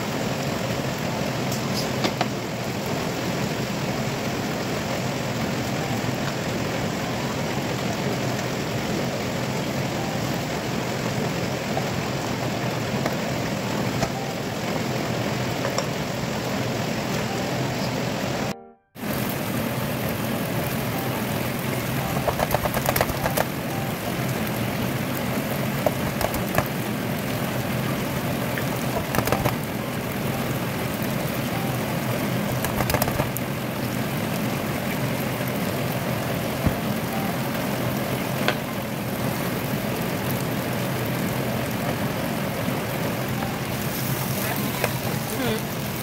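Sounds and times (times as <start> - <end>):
food sizzling in a wok: 0.0 - 18.4, 19.0 - 46.0.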